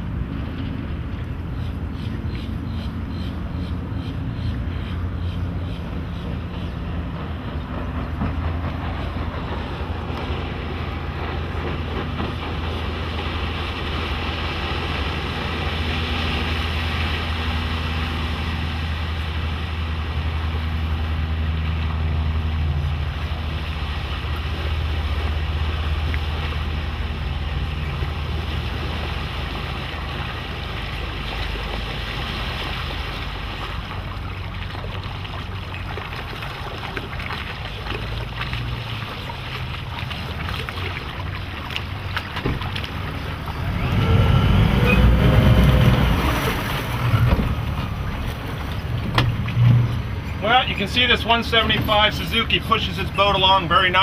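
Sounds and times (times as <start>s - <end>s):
outboard engine drone: 0.0s - 54.0s.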